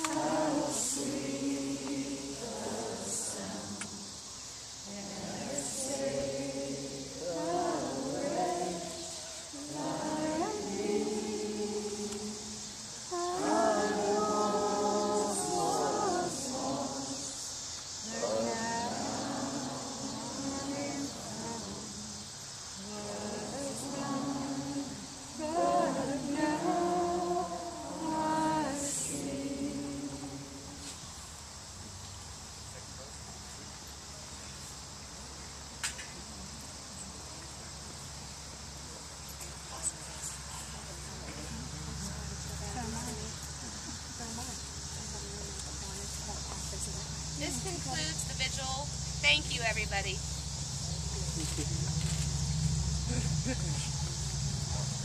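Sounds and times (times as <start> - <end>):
voices singing unaccompanied: 0.0 - 32.1, 34.0 - 55.0
insects chirring: 0.0 - 55.0.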